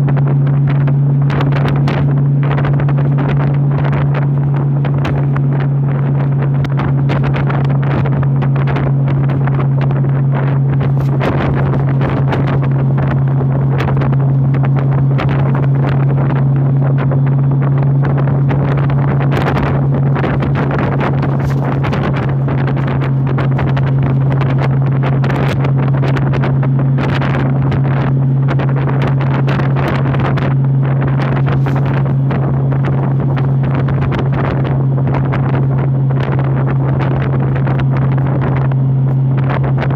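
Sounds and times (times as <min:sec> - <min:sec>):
motorcycle engine droning: 0:00.0 - 0:39.9
wind buffeting microphone: 0:00.0 - 0:39.9.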